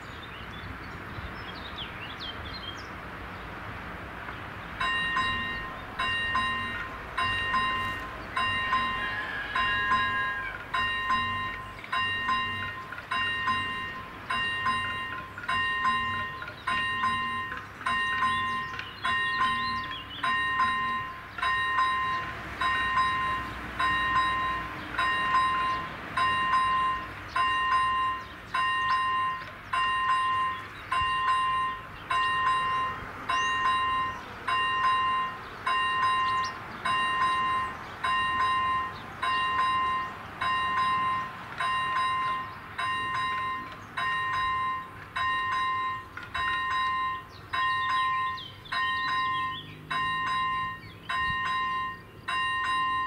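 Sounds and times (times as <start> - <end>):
birds chirping: 0.0 - 53.0
level crossing warning bell ringing: 4.8 - 53.0.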